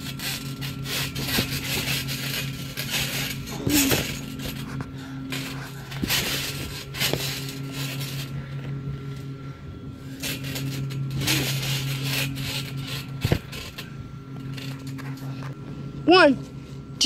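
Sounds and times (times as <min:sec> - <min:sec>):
bodies thudding on trampoline: 0:00.0 - 0:09.3, 0:10.1 - 0:15.6
steady low hum: 0:00.0 - 0:17.0.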